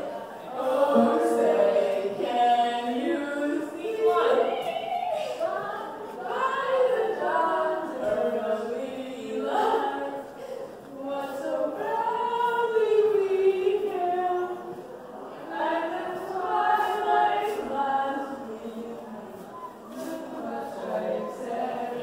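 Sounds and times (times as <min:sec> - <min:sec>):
choir singing a cappella: 0:00.0 - 0:22.0.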